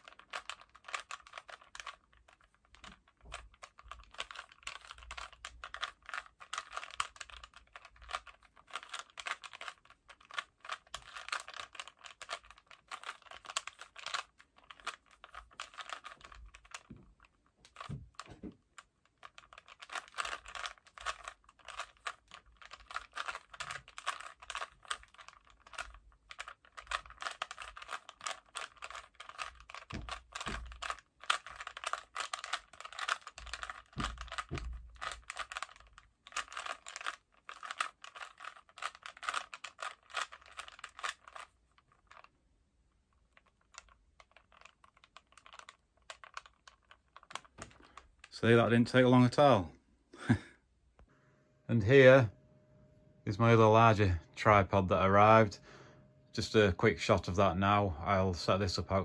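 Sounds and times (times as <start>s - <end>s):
plastic cube layers clicking: 0.0s - 42.4s, 43.0s - 48.3s.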